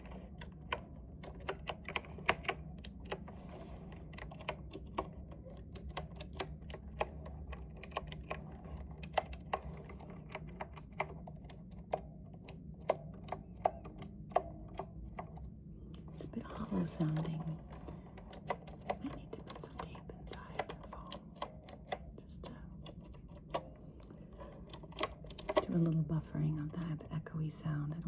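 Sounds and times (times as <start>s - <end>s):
mechanical keyboard typing: 0.0s - 27.1s.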